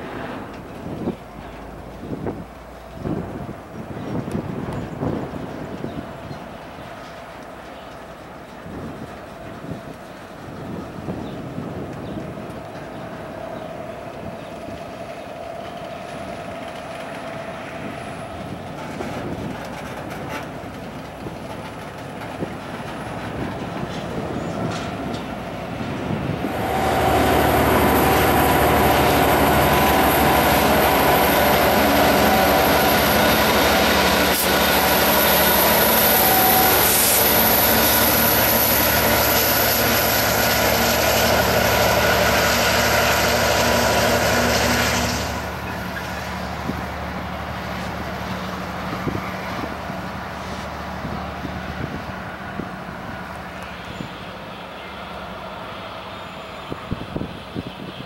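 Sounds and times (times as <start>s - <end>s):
diesel locomotive engine drone: 0.0s - 58.0s
train wheels on rails: 0.0s - 58.0s.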